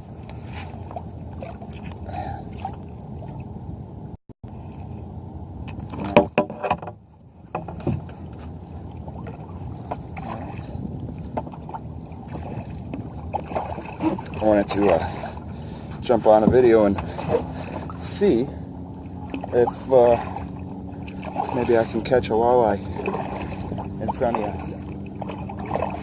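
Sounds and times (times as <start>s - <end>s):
water rushing against kayak hull: 0.0s - 3.6s, 5.8s - 26.0s
paddle knocks and splashes: 0.4s - 3.5s, 5.9s - 18.2s, 19.0s - 26.0s.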